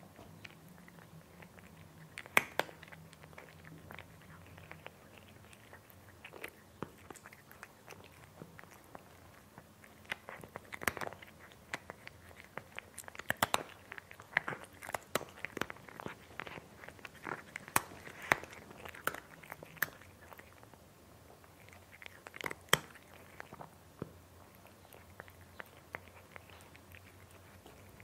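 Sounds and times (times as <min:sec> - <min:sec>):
cat crunching food: 0:00.0 - 0:28.0.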